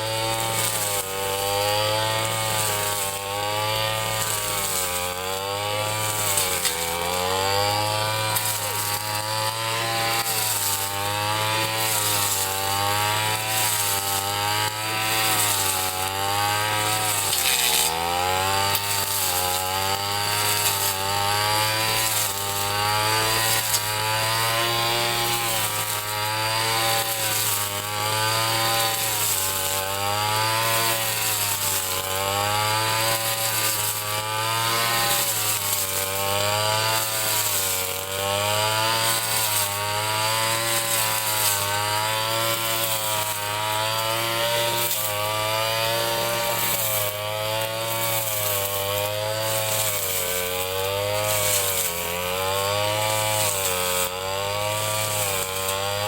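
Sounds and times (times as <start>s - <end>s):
brush cutter cutting grass: 0.0s - 56.0s.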